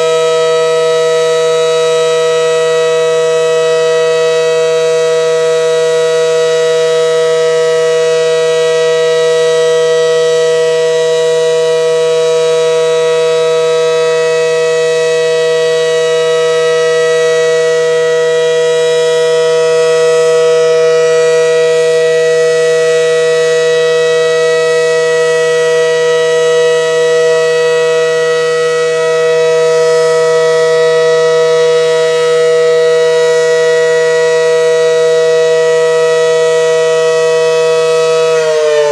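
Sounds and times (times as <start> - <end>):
siren steady two-note tone: 0.0 - 38.9.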